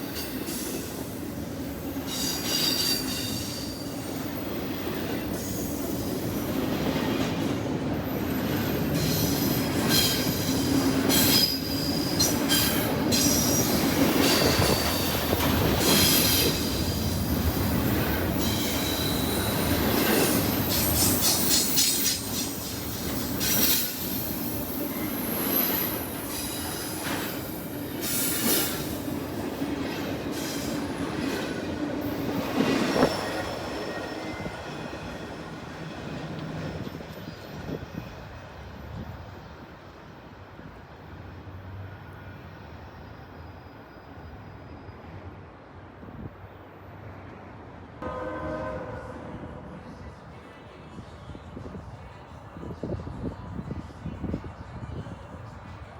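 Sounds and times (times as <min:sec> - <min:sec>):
train rumble: 0:00.0 - 0:42.5, 0:45.3 - 0:55.9
train wheels squealing on rail: 0:00.0 - 0:47.2, 0:48.0 - 0:55.9.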